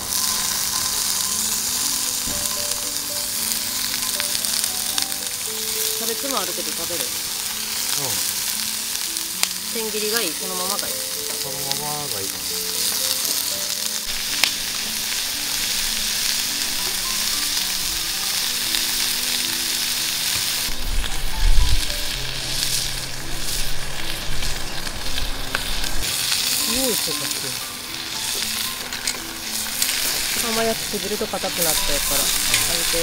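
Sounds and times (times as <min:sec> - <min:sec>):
beef sizzling in skillet: 0:00.0 - 0:33.0.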